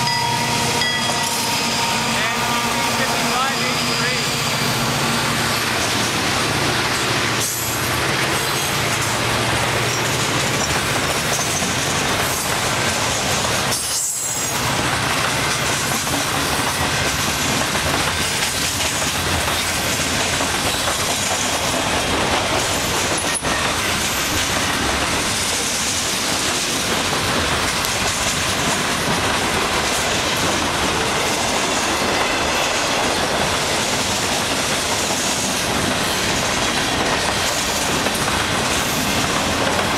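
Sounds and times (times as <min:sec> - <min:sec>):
freight train cars rolling past: 0:00.0 - 0:39.9
steel wheels rushing on rail: 0:00.0 - 0:39.9.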